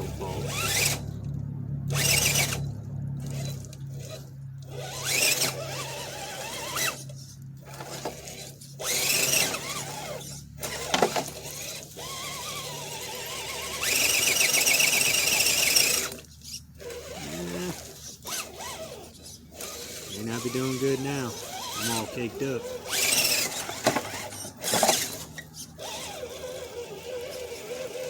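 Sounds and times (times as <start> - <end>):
rc car electric motor whining: 0.0 - 28.0.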